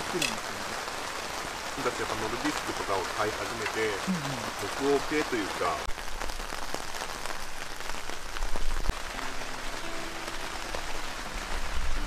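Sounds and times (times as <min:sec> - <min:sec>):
rain falling on wet grass: 0:00.0 - 0:12.0.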